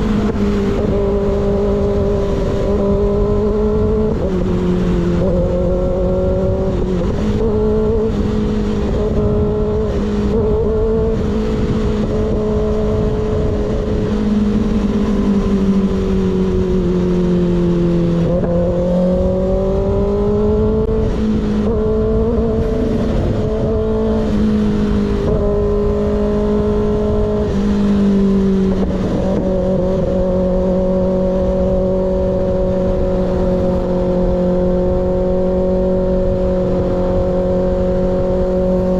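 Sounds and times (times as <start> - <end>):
motorcycle engine cruising: 0.0 - 38.9
wind rush: 0.0 - 38.9.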